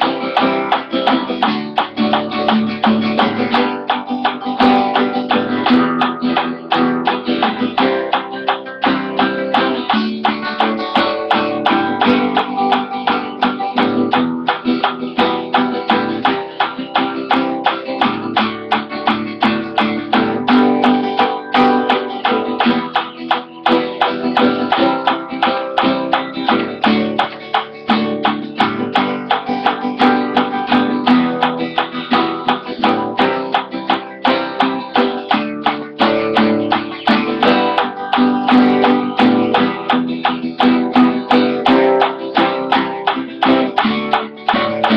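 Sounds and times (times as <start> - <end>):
acoustic guitar strumming chords: 0.0 - 44.9.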